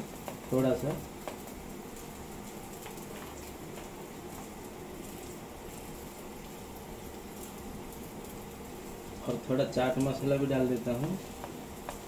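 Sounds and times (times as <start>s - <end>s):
onions frying in oil: 0.0s - 12.0s.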